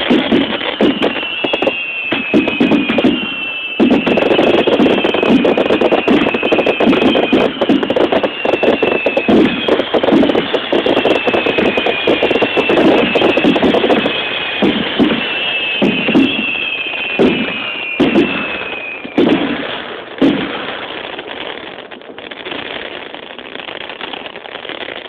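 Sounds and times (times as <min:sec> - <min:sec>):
falling firework whistles: 0:00.0 - 0:25.0
fireworks bursting and crackling: 0:00.0 - 0:25.0.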